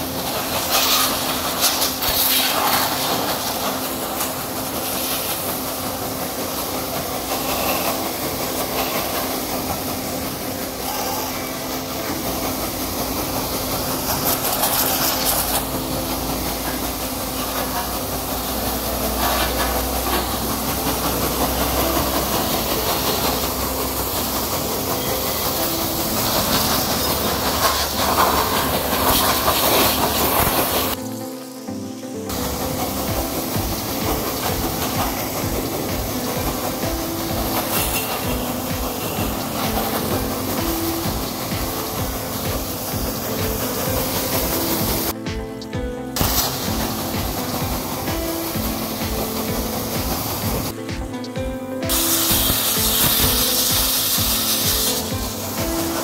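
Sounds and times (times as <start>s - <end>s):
pressure washer humming: 0.0s - 56.0s
water jet hissing: 0.0s - 56.0s.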